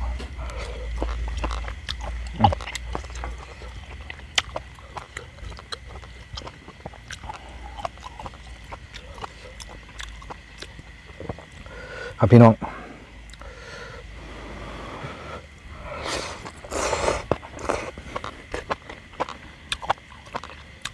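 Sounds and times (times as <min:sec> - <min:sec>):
man chewing and lip-smacking: 0:00.0 - 0:11.9, 0:13.2 - 0:13.6, 0:16.0 - 0:20.9.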